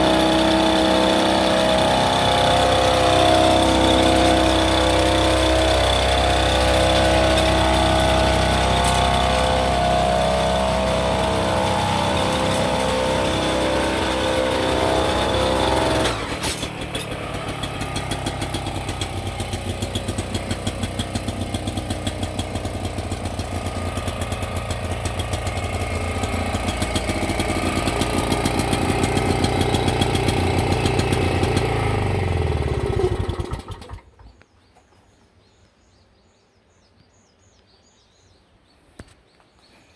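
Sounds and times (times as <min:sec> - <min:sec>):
small engine running: 0:00.0 - 0:34.2.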